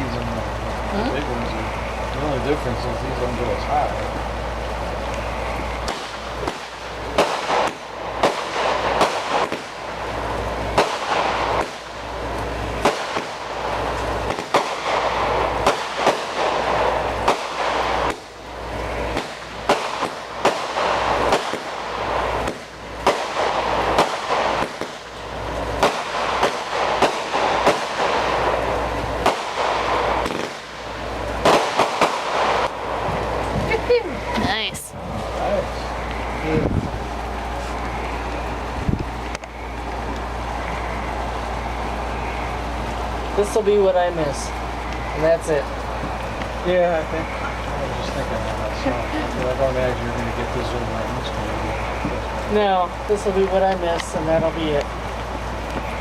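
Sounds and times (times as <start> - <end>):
steady hiss: 0.0 - 56.0
fireworks bangs: 4.9 - 56.0.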